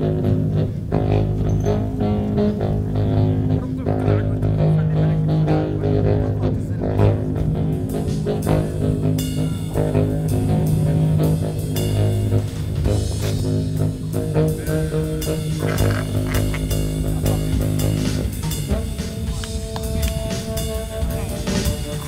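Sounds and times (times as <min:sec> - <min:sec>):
baritone saxophone droning: 0:00.0 - 0:22.0.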